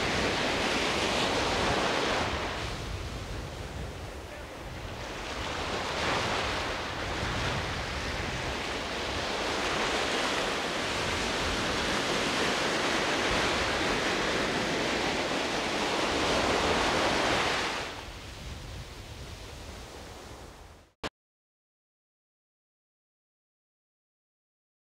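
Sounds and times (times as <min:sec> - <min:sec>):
sea surf breaking: 0:00.0 - 0:20.8.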